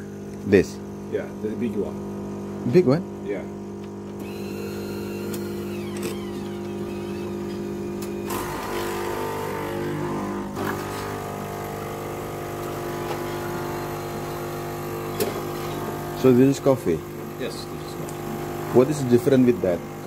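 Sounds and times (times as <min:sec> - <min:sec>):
coffee machine motor humming: 0:00.0 - 0:20.0.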